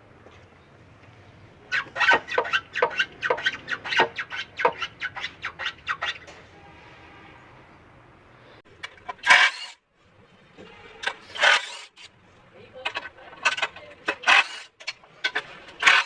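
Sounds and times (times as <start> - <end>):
car suspension squeaking: 0.1 - 7.7, 8.6 - 16.0.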